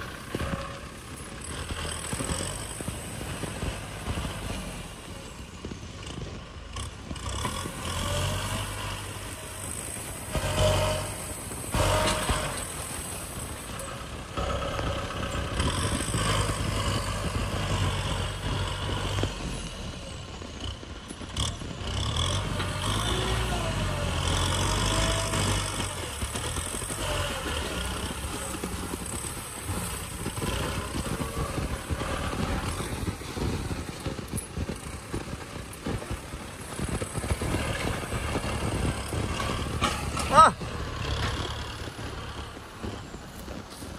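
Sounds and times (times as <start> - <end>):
dozer blade pushing soil: 0.0 - 43.9
tractor diesel engine under load: 0.0 - 43.9.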